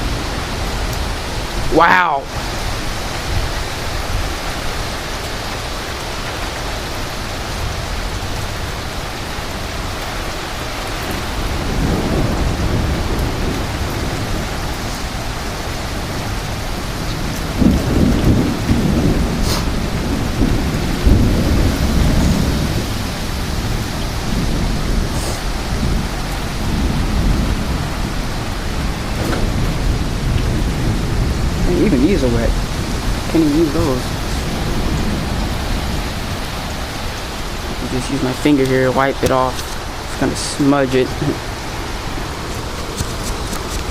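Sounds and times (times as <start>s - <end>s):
driving rain: 0.0s - 43.9s
low rumbling gusts: 0.0s - 43.9s
strong wind: 0.0s - 43.9s.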